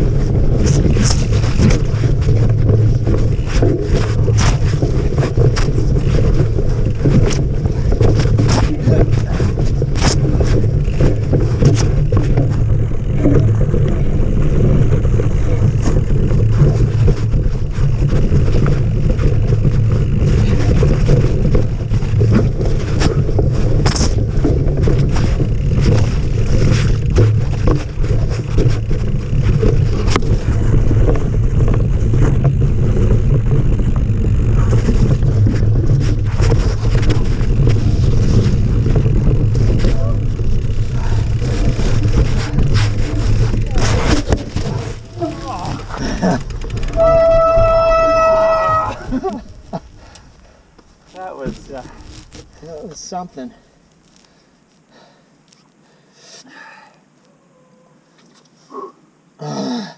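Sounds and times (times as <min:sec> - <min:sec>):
tyres rumbling on dirt: 0:00.0 - 0:54.3
bike clicks and rattles: 0:00.0 - 0:55.9.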